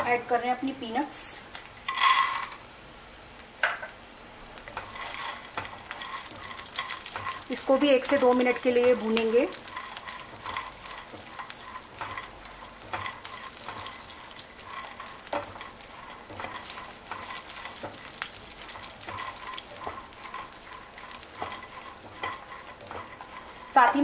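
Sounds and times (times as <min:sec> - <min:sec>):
soft sizzle in pan: 0:00.0 - 0:24.0
spatula scraping pan: 0:01.8 - 0:02.6, 0:04.7 - 0:24.0.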